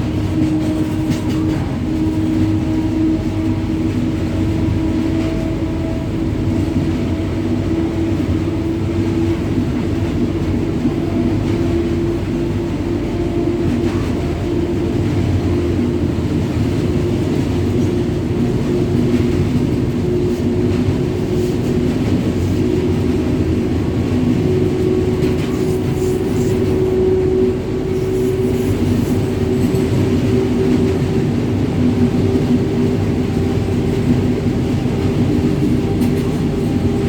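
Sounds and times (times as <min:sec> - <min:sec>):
train wheels rumbling on track: 0:00.0 - 0:37.0
two-tone locomotive hum: 0:00.0 - 0:37.0.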